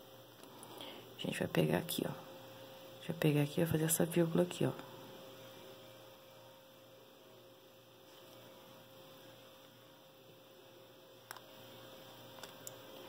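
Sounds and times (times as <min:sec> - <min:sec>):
faint electrical hum with hiss: 0:00.0 - 0:13.0.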